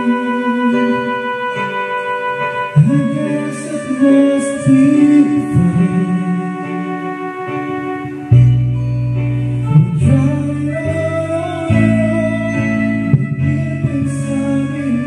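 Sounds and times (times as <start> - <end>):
karaoke backing music: 0.0 - 15.0
person singing: 0.0 - 15.0.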